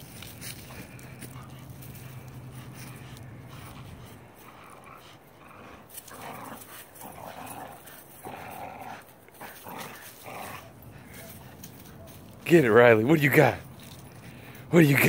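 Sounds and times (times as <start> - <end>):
dogs growling in play: 0.0 - 12.4.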